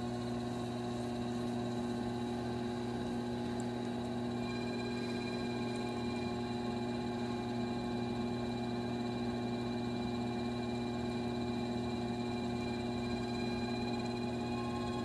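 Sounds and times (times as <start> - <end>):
potter's wheel motor hum: 0.0 - 15.0.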